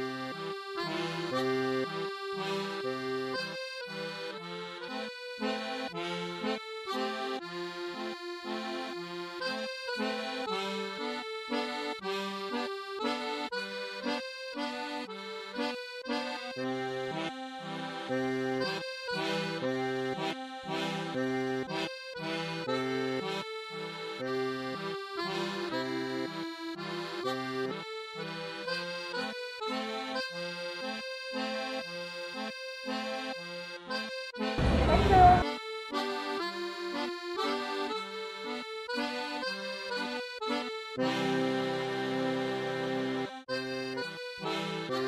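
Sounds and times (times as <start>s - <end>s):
instrumental music: 0.0s - 45.0s.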